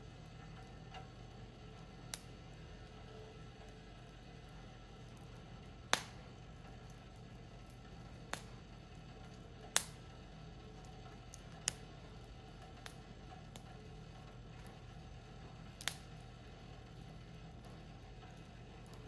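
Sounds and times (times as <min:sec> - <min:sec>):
firewood fire crackling: 0:00.0 - 0:19.0.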